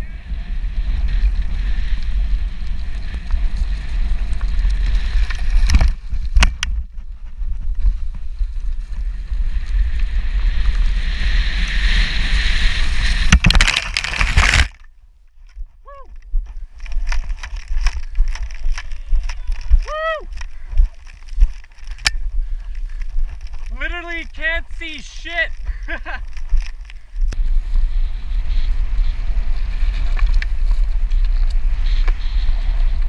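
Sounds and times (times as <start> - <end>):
mountainboard tyres rumbling on grass: 0.0 - 33.0
wind rushing over microphone: 0.0 - 33.0.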